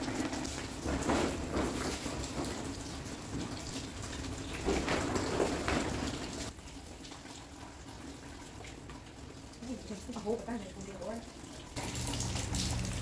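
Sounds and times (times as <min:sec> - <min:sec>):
rainwater dripping and running off roof: 0:00.0 - 0:13.0
water splashing around bucket: 0:00.0 - 0:13.0.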